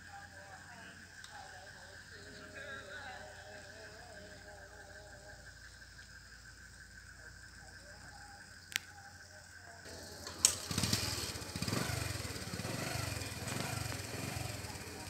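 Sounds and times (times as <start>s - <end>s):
faint insect trill: 0.0s - 15.0s
indistinct voices: 0.0s - 15.0s
mixed background noise: 0.0s - 15.0s.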